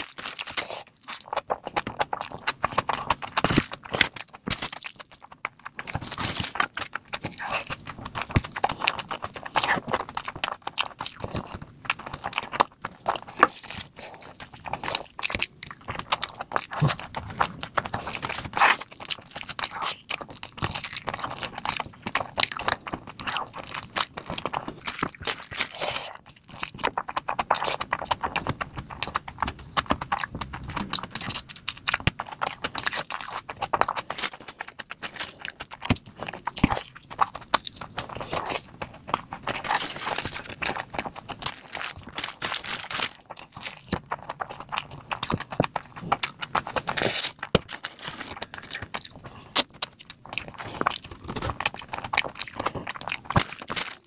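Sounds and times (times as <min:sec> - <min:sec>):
close chewing with clicks and crunches: 0:00.0 - 0:54.0.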